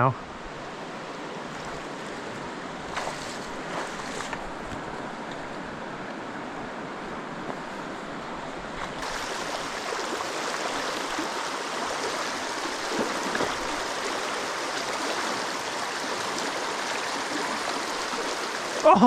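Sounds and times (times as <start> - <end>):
stream rushing over rocks: 0.7 - 19.0.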